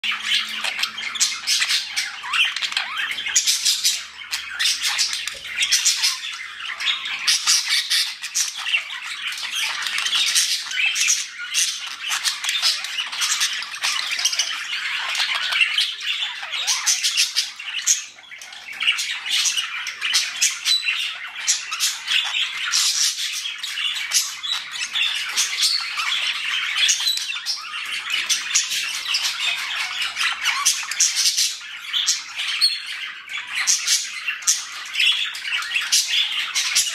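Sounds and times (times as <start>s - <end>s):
budgerigars chattering and warbling: 0.0s - 36.9s.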